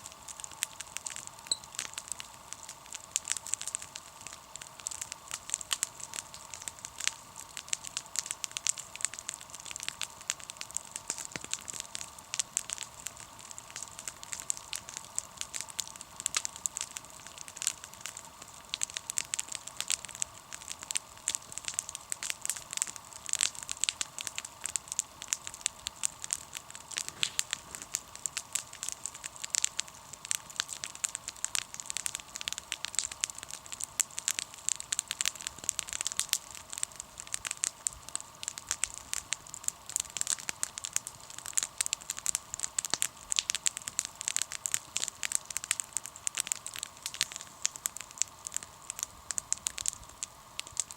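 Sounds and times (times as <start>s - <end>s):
campfire crackling: 0.0s - 50.9s
sharp snaps and pops: 0.0s - 50.9s.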